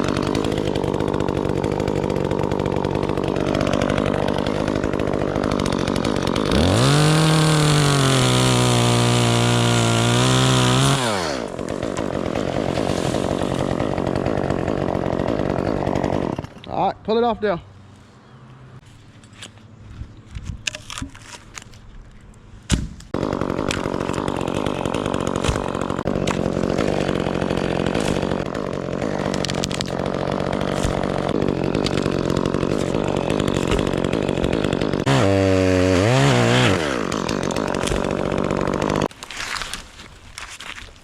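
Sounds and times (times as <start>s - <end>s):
chainsaw running: 0.0s - 16.9s, 23.1s - 39.6s.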